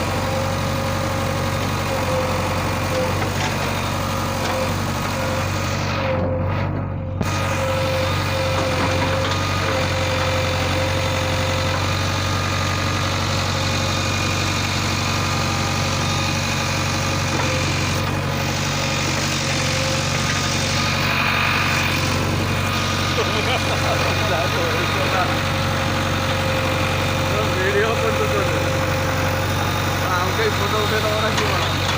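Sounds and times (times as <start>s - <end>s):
diesel engines running: 0.0s - 31.9s.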